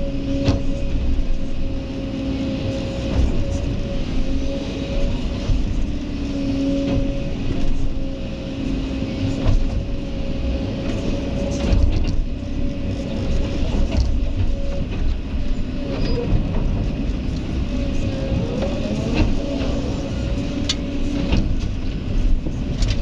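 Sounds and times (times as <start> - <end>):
excavator diesel rumble: 0.0 - 23.0
machine whine: 0.0 - 23.0.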